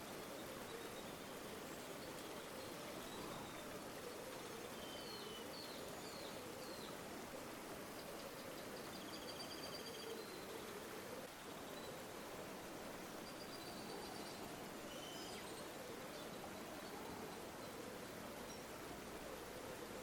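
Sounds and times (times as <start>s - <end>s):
river flowing: 0.0s - 20.0s.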